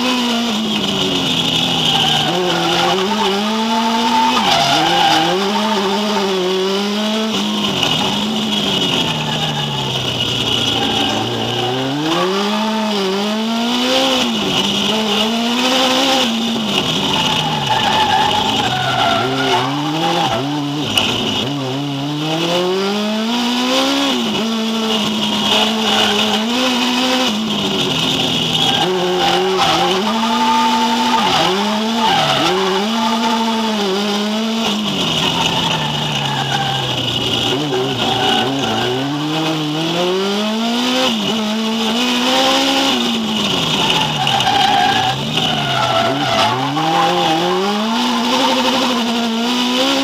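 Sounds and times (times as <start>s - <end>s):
high tyre squeal: 0.0s - 13.1s, 13.8s - 21.7s, 23.8s - 39.6s, 41.0s - 50.0s
car engine revving: 0.0s - 50.0s.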